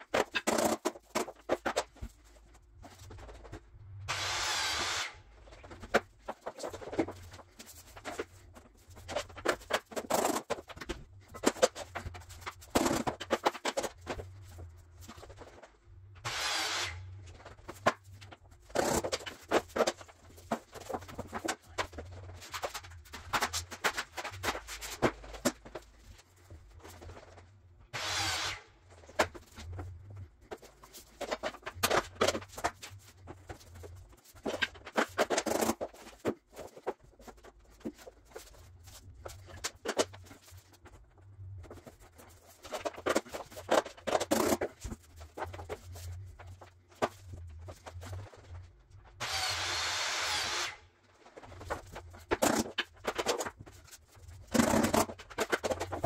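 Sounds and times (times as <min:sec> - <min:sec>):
vinyl planks clicking and knocking: 0:00.0 - 0:04.0, 0:05.4 - 0:16.2, 0:17.2 - 0:27.6, 0:29.0 - 0:49.0, 0:51.2 - 0:56.0.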